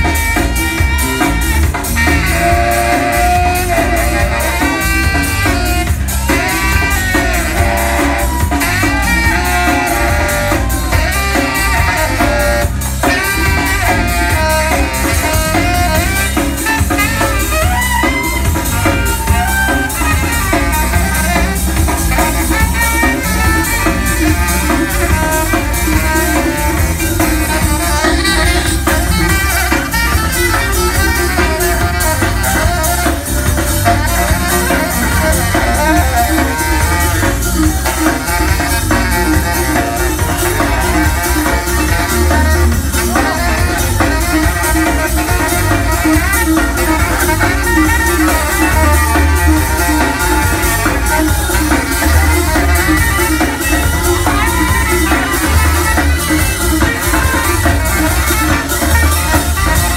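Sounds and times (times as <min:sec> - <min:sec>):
bass: 0:00.0 - 0:59.9
drum kit: 0:00.0 - 0:59.9
electric guitar: 0:00.0 - 0:59.9
live band playing: 0:00.0 - 0:59.9
saxophone: 0:00.0 - 0:59.9.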